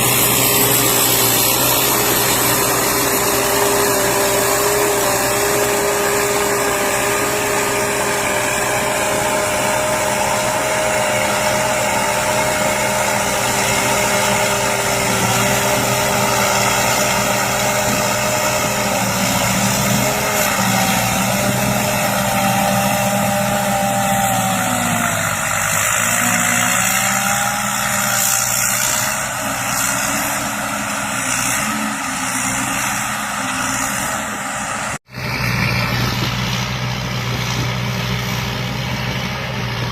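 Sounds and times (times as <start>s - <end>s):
combine harvester engine drone: 0.0s - 39.9s
machinery whine: 0.0s - 39.9s.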